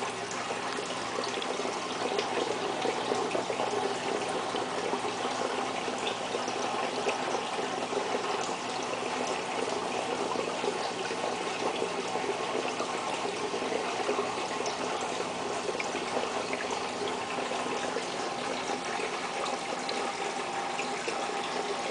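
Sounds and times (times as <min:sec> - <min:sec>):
running water rushing: 0:00.0 - 0:21.9.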